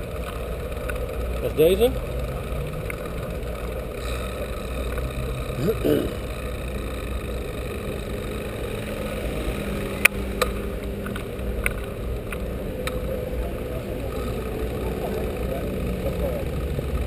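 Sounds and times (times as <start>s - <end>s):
bicycle rumbling on road: 0.0s - 17.0s.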